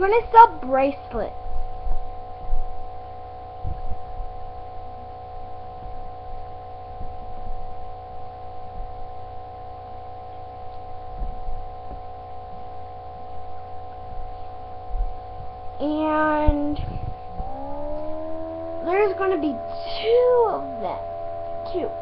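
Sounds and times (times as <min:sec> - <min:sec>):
low rumble: 0:00.0 - 0:22.0
steady electrical hum: 0:00.0 - 0:22.0.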